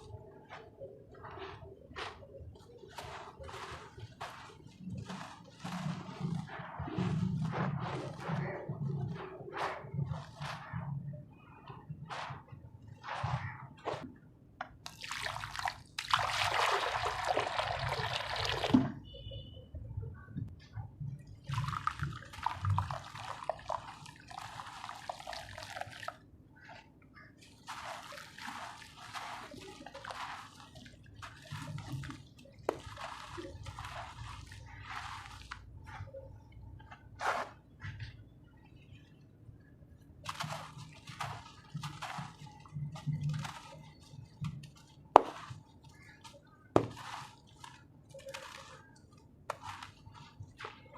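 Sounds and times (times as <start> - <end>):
wet sand-cement crumbling: 0.0 - 14.1, 14.7 - 19.4, 21.3 - 38.9, 40.0 - 50.9
water dripping and sloshing: 0.0 - 19.2, 20.4 - 50.9.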